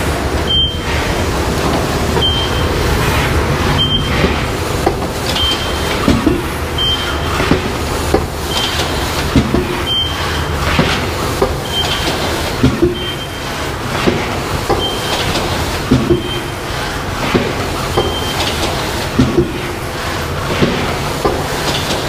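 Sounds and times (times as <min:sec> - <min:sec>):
box making machine running: 0:00.0 - 0:22.0.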